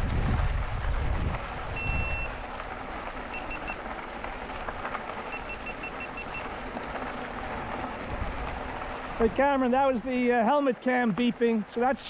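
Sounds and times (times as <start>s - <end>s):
wind and riding noise: 0.0s - 12.0s.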